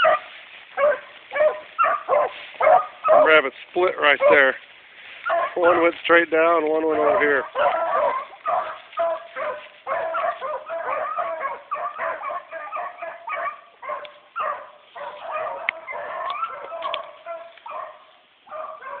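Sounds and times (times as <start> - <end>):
hounds baying and yelping: 0.0 - 19.0.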